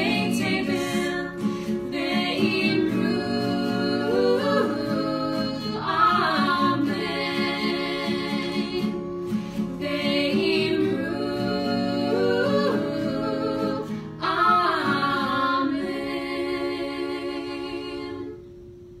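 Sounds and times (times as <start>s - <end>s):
women singing in harmony: 0.0s - 18.6s
acoustic guitar: 0.0s - 19.0s.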